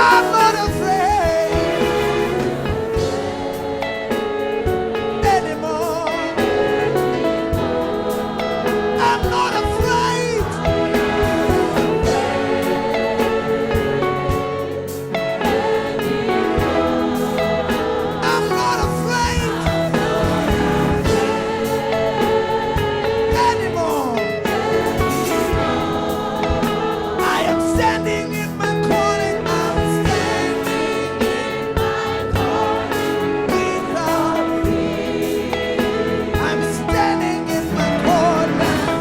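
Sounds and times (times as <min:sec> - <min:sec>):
gospel band with guitar and drums: 0:00.0 - 0:39.0
voices singing: 0:00.0 - 0:39.0.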